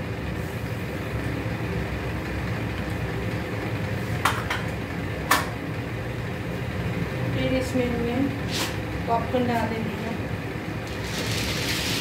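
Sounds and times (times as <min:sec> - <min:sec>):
gas stove burner rumble: 0:00.0 - 0:12.0.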